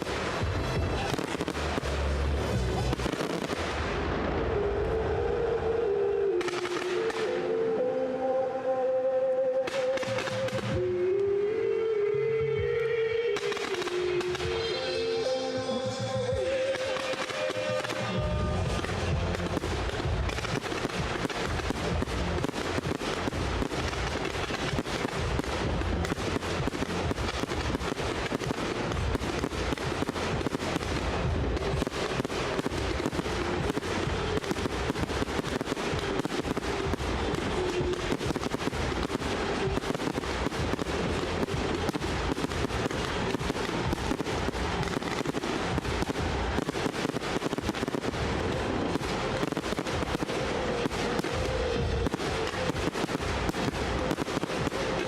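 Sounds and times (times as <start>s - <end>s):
firework bangs and crackling: 0.0s - 7.5s, 9.6s - 11.3s, 13.4s - 55.0s.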